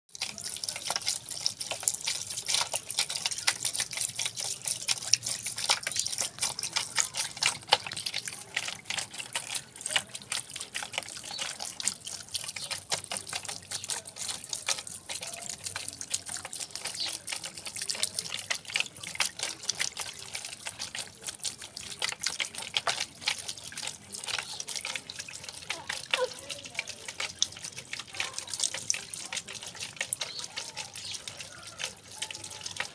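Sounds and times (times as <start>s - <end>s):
fountain water splashing into basin: 0.1s - 32.9s.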